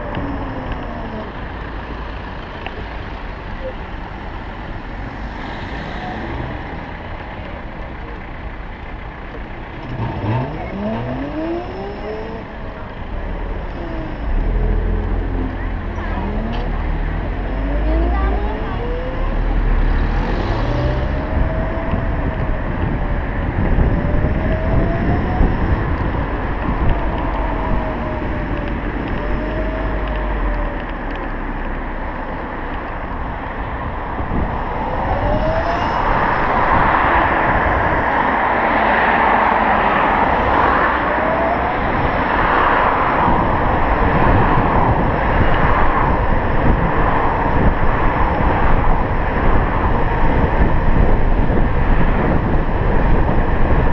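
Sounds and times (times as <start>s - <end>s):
road and wind noise: 0.0s - 53.9s.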